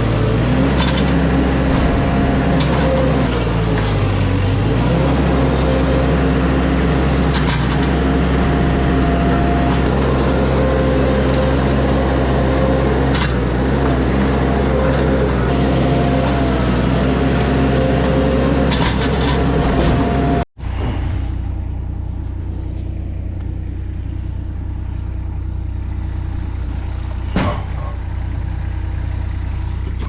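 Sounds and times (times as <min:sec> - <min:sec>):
engine running loudly: 0:00.0 - 0:30.0
low engine drone: 0:00.0 - 0:30.0.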